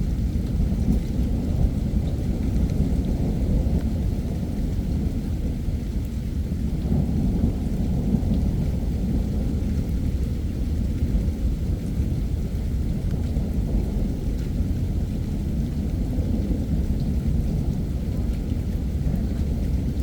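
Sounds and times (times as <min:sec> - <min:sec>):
rolling thunder: 0:00.0 - 0:20.0
steady rain: 0:00.0 - 0:20.0.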